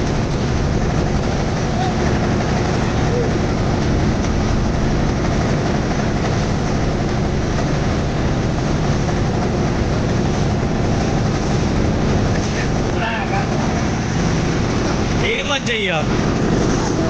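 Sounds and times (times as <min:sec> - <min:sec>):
boat motor droning: 0:00.0 - 0:17.0.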